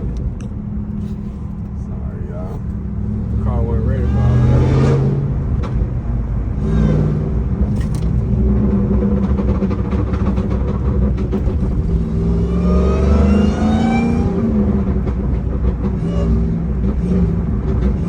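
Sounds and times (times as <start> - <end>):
truck engine deep exhaust rumble: 0.0 - 18.0.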